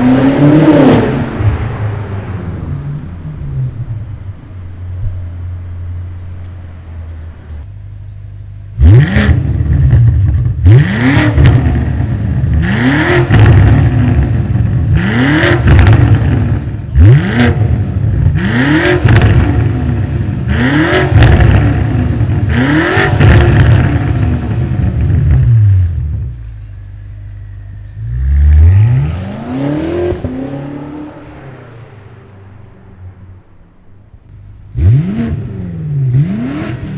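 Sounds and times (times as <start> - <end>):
car engine rumbling and revving: 0.0 - 7.8, 8.6 - 36.9.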